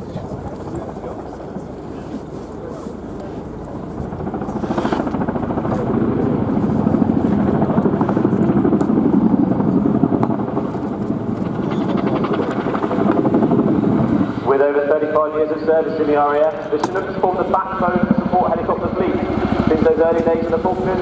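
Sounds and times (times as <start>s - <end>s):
helicopter rotors beating: 0.0s - 21.0s.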